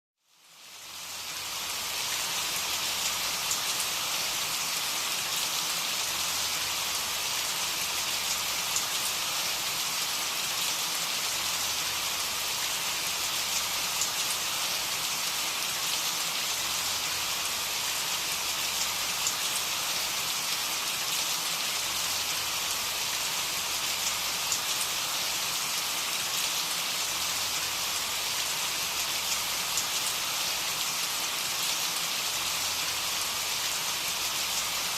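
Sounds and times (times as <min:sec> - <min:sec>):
dense rainfall: 0:00.3 - 0:34.9.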